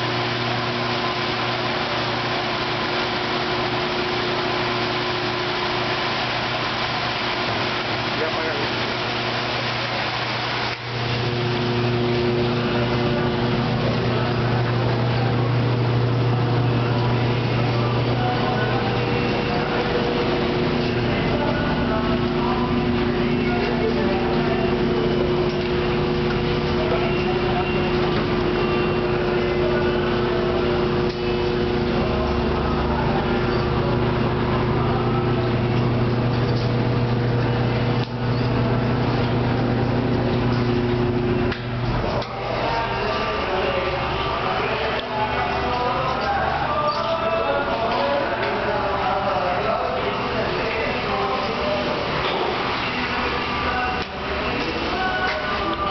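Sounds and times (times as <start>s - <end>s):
electric pumps humming: 0.0s - 55.9s.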